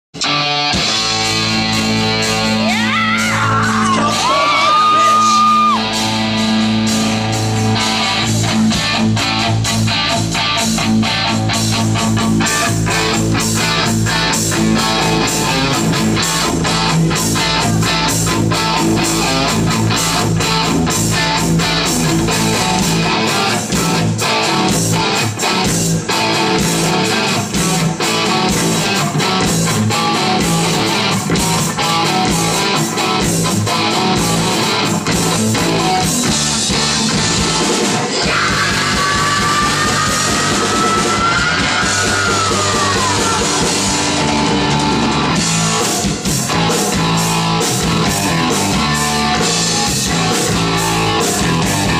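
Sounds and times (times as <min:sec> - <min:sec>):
electric guitars: 0:00.1 - 0:51.9
drum kit: 0:00.2 - 0:51.9.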